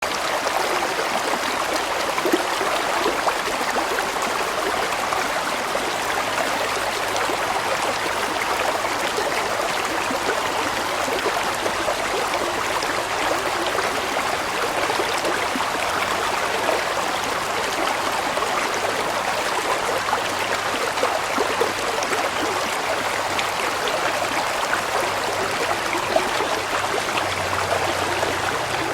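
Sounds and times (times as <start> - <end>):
stream water flowing: 0.0 - 28.9.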